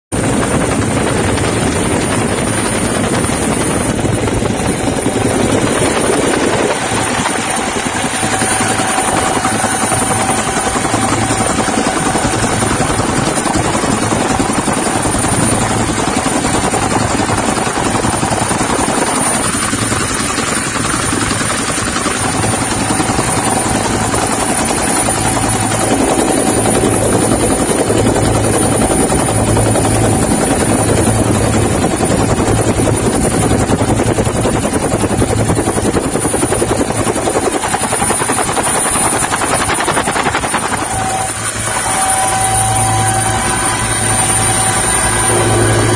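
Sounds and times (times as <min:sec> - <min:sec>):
helicopter rotor and engine: 0:00.1 - 0:45.9.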